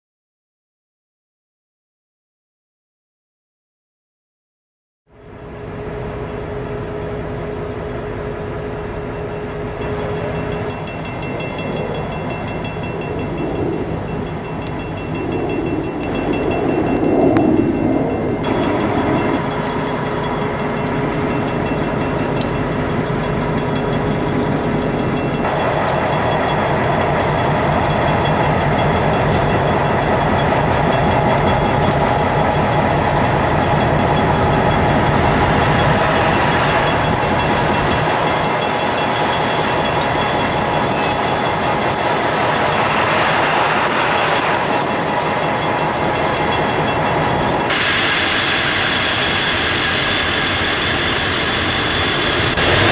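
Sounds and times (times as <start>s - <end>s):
diesel locomotive engines running: 5.1s - 52.9s.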